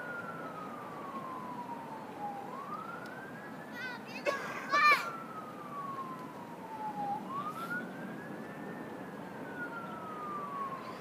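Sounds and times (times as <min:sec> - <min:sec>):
emergency vehicle siren wailing: 0:00.0 - 0:11.0.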